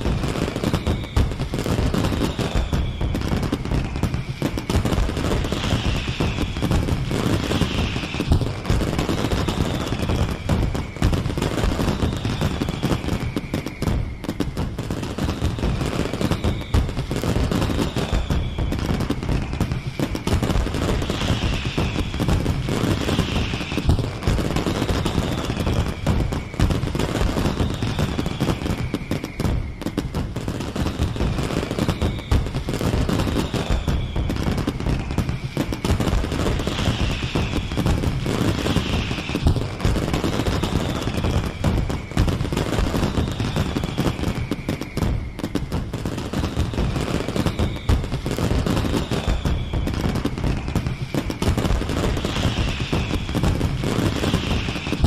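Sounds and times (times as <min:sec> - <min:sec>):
fireworks bangs and crackling: 0:00.0 - 0:55.0
fireworks falling whistles: 0:00.0 - 0:55.0.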